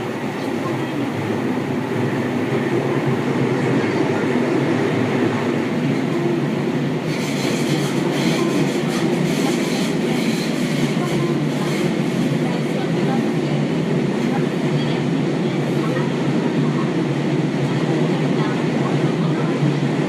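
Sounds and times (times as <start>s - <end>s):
train wheels rumbling in tunnel: 0.0s - 20.0s.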